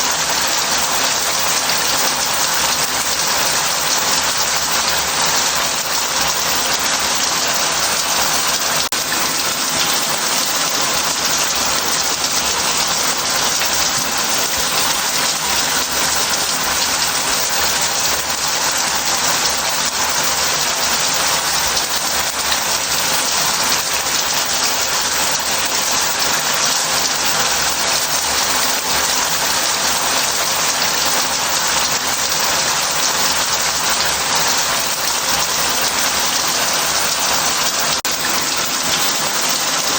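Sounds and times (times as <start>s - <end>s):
shower spraying into bath: 0.0s - 39.9s.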